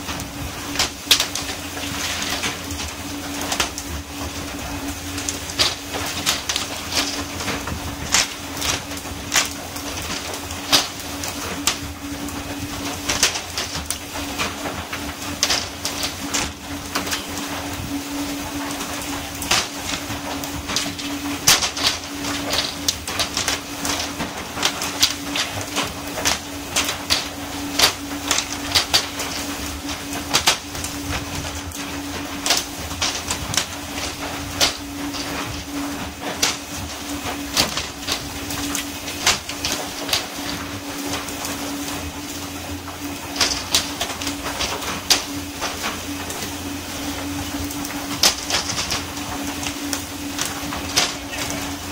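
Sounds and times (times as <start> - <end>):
boat engine hum: 0.0 - 51.9.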